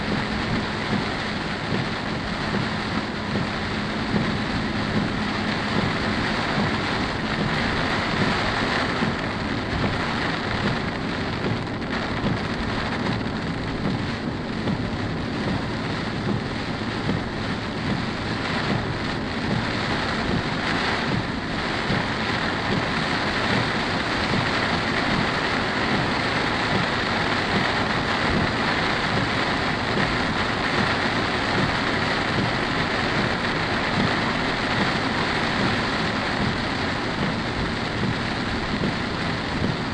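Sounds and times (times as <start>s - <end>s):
heavy rain on a moving car: 0.0s - 39.9s.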